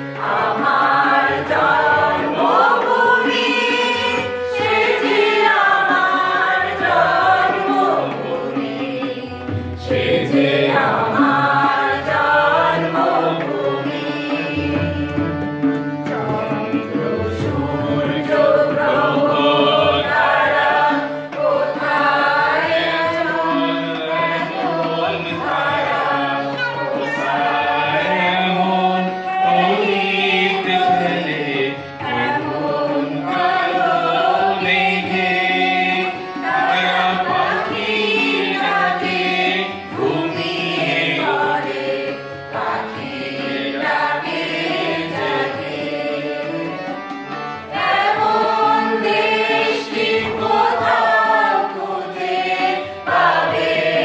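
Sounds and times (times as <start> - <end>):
group singing: 0.0 - 54.0
harmonium: 0.0 - 54.0
tabla drum strokes: 0.0 - 54.0.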